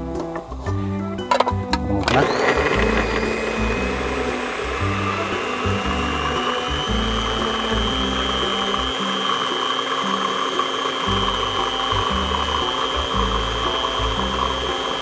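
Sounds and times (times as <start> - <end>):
background music with bassline: 0.0 - 9.2, 10.9 - 15.0
food processor motor whine: 1.3 - 15.0.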